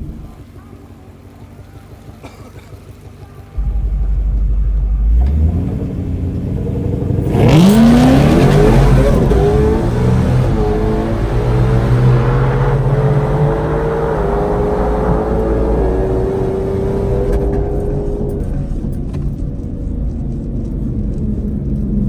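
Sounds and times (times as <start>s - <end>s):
drag car engine revving: 0.0s - 22.0s
engine low rumble: 0.0s - 22.0s.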